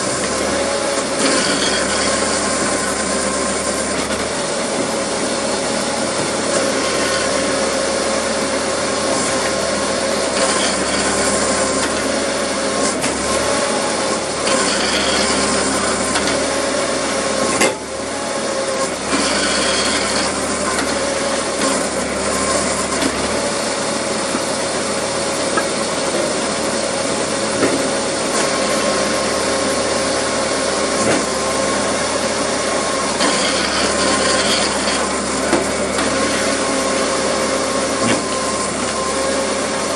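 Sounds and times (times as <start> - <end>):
hydraulic wood splitter whining: 0.0 - 39.9.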